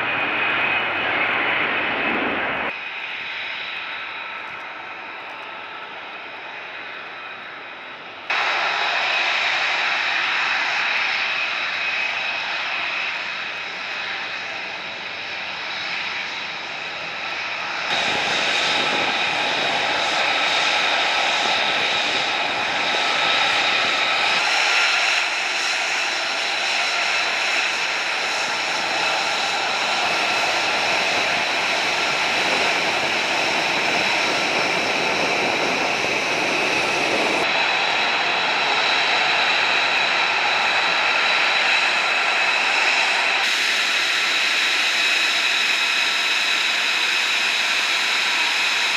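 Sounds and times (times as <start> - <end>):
jet engine roaring with whine: 0.0 - 48.9.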